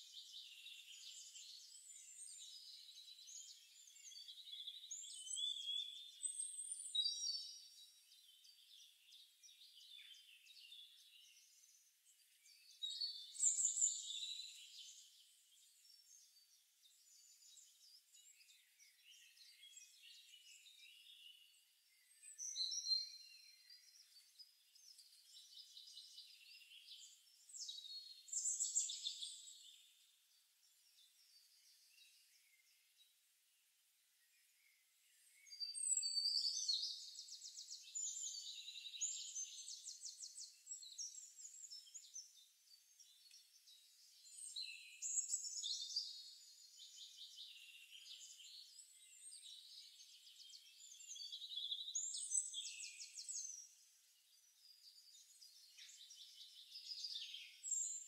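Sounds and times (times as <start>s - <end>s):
birds chirping and trilling: 0.0s - 33.1s, 34.3s - 58.0s.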